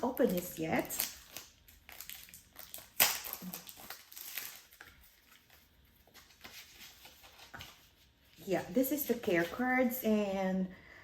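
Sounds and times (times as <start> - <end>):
paper packaging rustling: 0.0 - 9.9.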